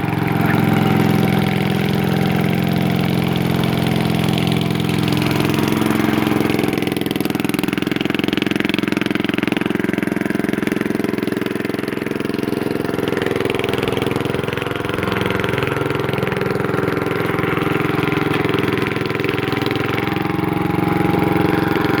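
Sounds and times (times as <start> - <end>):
small gasoline engine running: 0.0 - 22.0.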